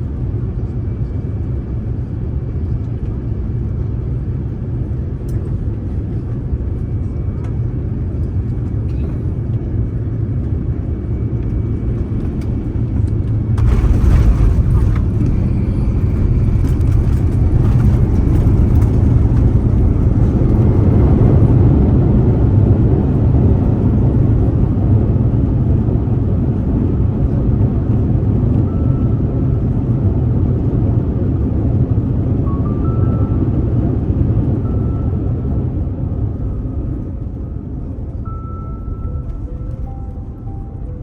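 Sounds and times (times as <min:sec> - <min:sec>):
aircraft cabin engine rumble: 0:00.0 - 0:41.0.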